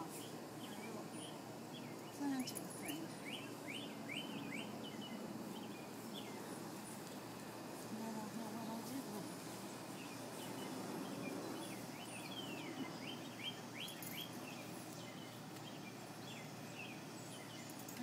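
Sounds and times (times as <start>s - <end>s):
songbird chirping: 0.0s - 18.0s
steady background hiss: 0.0s - 18.0s.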